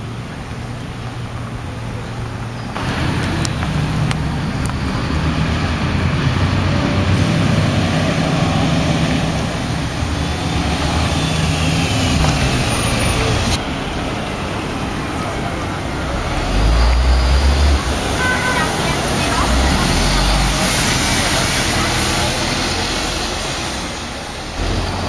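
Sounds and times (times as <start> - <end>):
bus engine driving past: 0.0 - 25.0.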